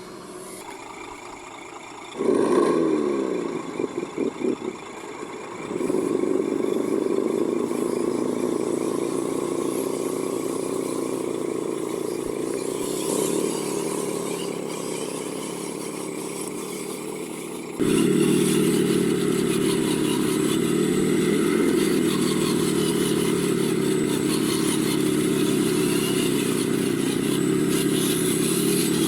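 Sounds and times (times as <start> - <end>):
radio-controlled model drive running: 0.0 - 29.0.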